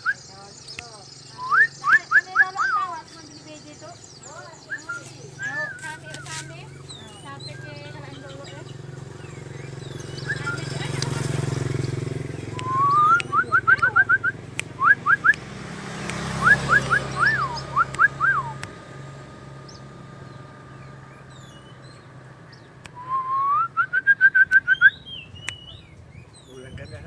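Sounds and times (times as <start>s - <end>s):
bird singing whistled phrases: 0.0s - 11.2s, 11.9s - 15.4s, 16.3s - 18.6s, 21.2s - 27.0s.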